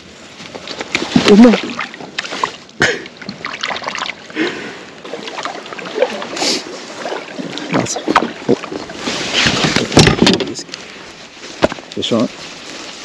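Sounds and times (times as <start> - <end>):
paddle splashing in water: 0.2 - 11.9.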